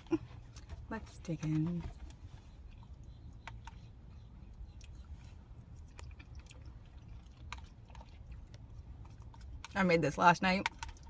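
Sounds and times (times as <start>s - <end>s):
person chewing with wet mouth sounds: 0.0s - 11.0s.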